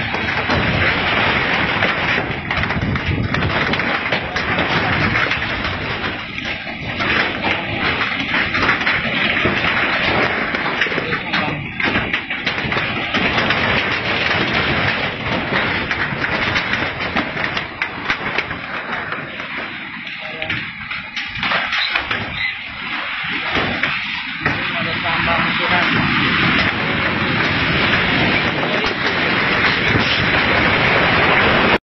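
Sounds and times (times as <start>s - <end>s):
churning roar of earth and debris: 0.0s - 31.8s.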